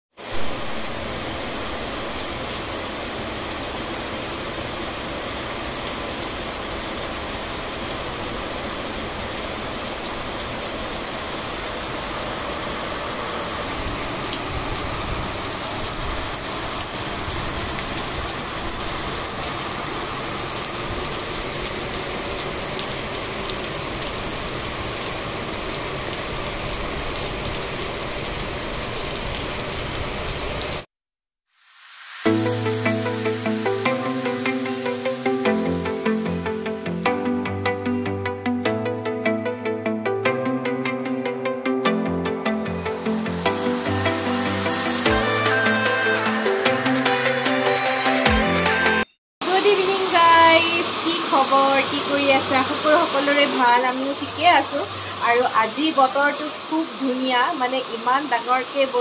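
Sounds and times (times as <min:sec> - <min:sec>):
heavy rain falling: 0:00.2 - 0:30.9, 0:31.8 - 0:36.6, 0:42.6 - 0:59.0.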